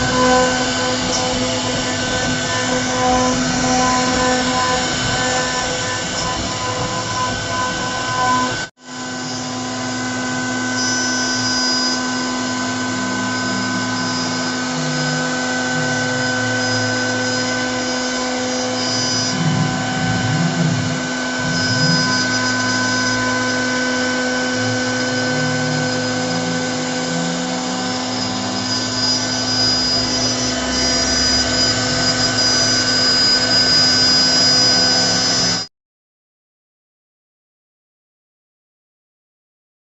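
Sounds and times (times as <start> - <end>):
motors shifting in pitch: 0.0 - 35.7
router spindle whine: 0.0 - 35.7.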